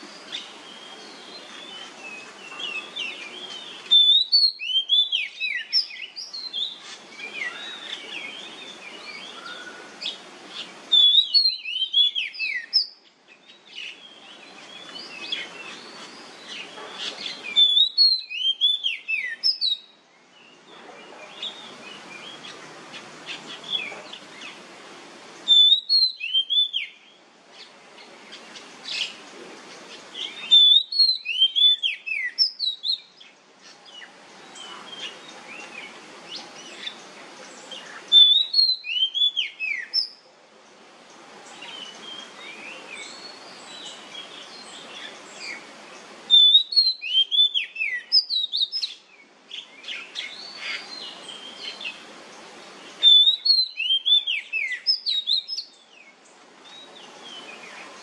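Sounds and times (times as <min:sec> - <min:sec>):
bird singing whistled notes: 0:00.0 - 0:22.6, 0:25.4 - 0:27.7, 0:30.1 - 0:37.0, 0:37.6 - 0:40.3, 0:41.5 - 0:45.6, 0:46.3 - 0:52.0, 0:53.0 - 0:58.0
quiet hiss: 0:00.0 - 0:58.0.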